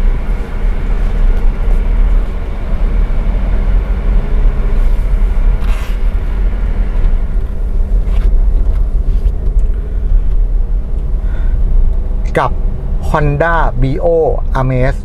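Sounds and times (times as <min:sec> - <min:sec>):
car engine running: 0:00.0 - 0:15.0
low road rumble: 0:00.0 - 0:15.0.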